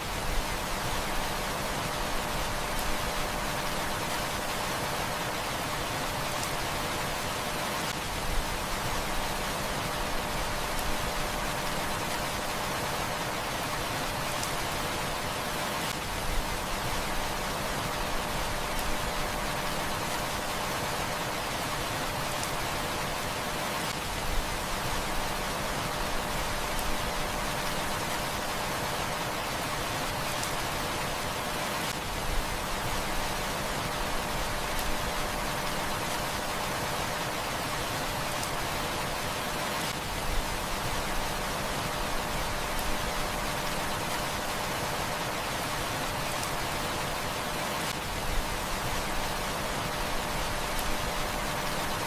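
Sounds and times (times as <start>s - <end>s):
heavy rain falling: 0.1s - 52.0s.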